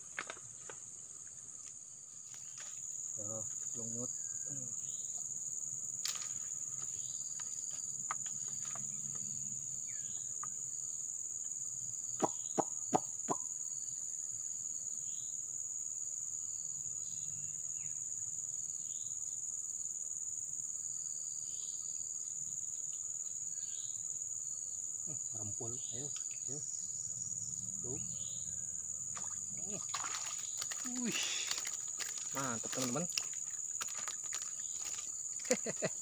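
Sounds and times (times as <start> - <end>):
forest insects droning: 0.0 - 36.0.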